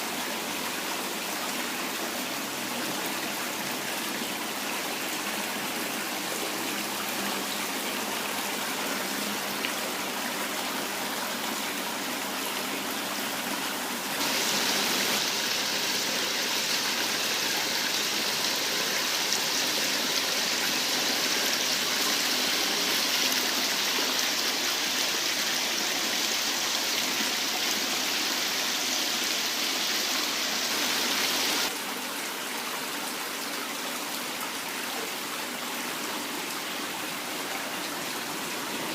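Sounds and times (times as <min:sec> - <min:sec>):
water splashing down small waterfall: 0:00.0 - 0:38.9.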